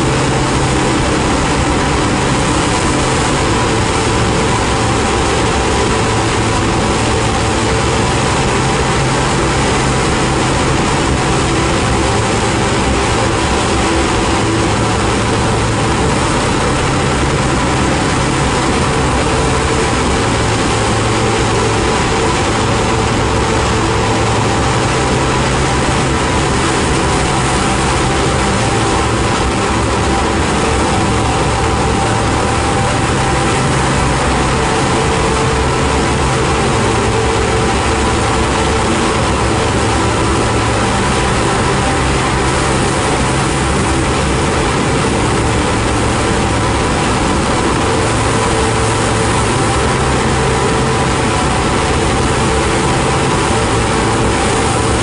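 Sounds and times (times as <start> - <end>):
ambient drone noise music: 0.0 - 55.0.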